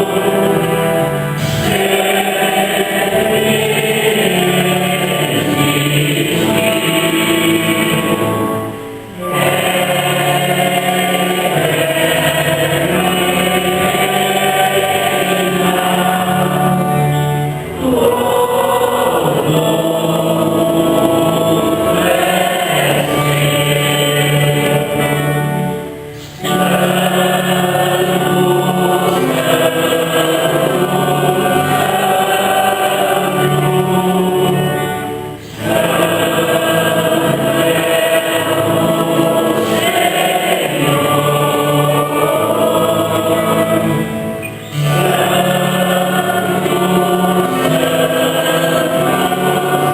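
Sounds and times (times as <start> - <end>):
church choir singing a hymn: 0.0 - 49.9.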